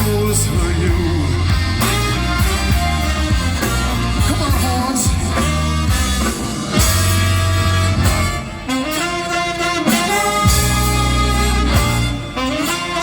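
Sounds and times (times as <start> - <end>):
bass line: 0.0 - 13.0
horn section playing blues: 0.0 - 13.0
saxophone: 0.0 - 13.0.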